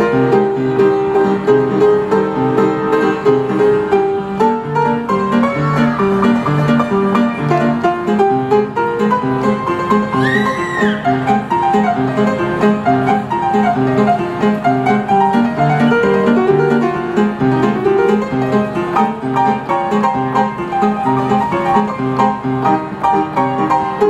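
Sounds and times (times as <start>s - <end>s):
upright piano played fast: 0.0s - 24.0s.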